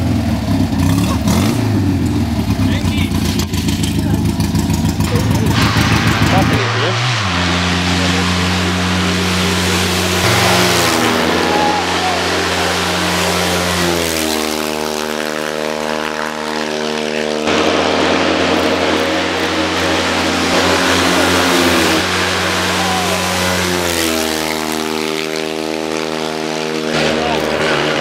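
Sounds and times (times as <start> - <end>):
race car engines revving: 0.0 - 28.0.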